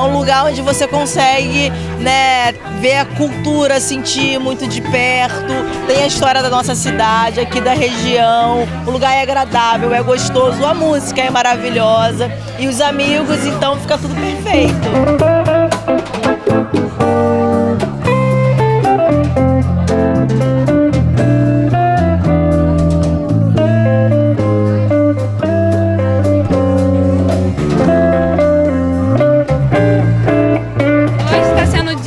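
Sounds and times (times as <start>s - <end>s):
blues guitar music: 0.0s - 32.0s.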